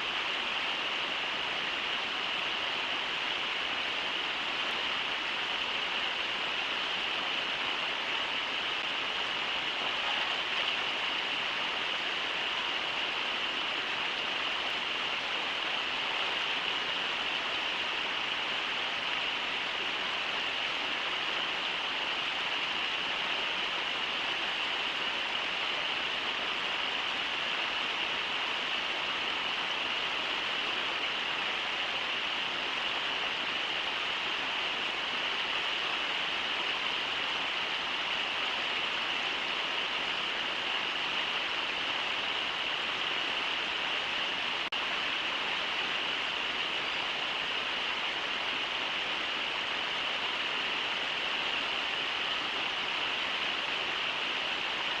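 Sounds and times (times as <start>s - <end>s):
river rushing over riffles: 0.0s - 55.0s.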